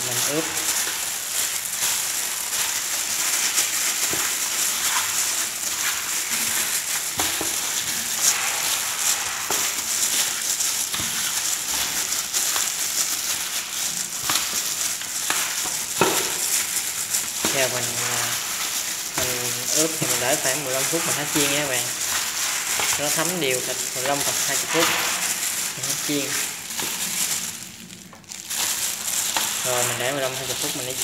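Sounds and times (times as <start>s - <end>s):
gloved hand kneading meat: 0.0s - 31.0s.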